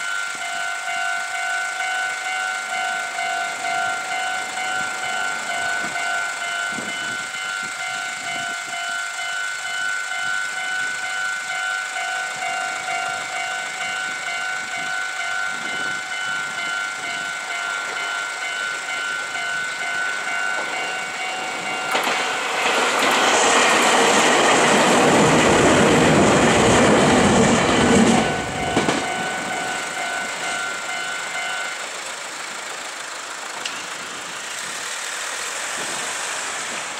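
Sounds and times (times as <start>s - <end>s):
level crossing warning bell: 0.0s - 34.7s
train wheels clacking over rails: 0.0s - 36.9s.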